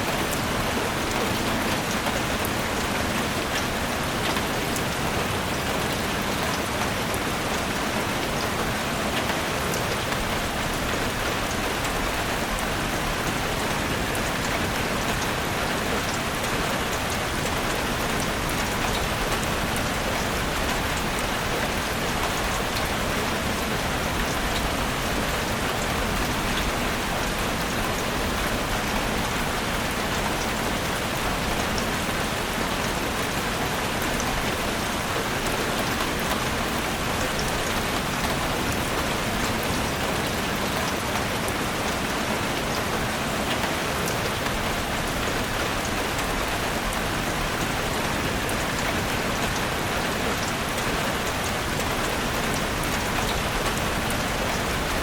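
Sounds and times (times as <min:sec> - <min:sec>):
steady rain on forest: 0:00.0 - 0:55.0.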